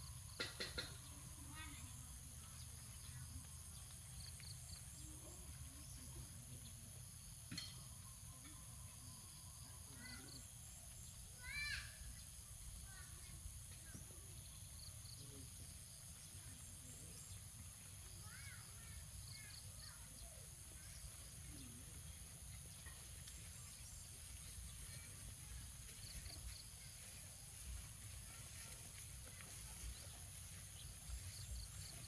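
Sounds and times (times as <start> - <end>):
faint chirps: 0.0 - 32.0.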